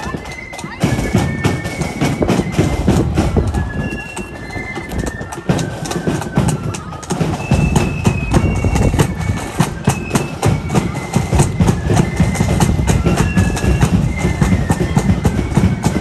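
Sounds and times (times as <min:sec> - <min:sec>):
distant band high notes: 0:00.0 - 0:16.0
marching footsteps on tarmac: 0:00.0 - 0:16.0.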